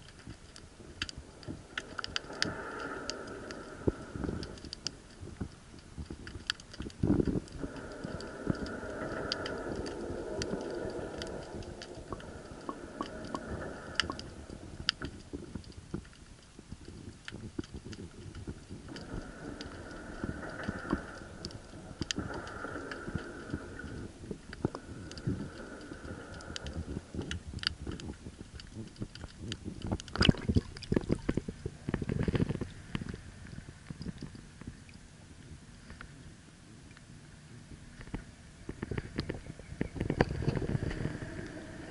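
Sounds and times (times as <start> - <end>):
steady hum: 0.0 - 39.2
underwater clicks and crackles: 0.0 - 41.9.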